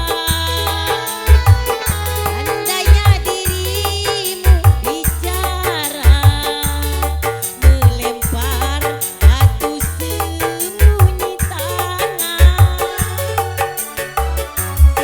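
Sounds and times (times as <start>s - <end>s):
heavy low drum beat: 0.0s - 15.0s
keyboard dance music: 0.0s - 15.0s.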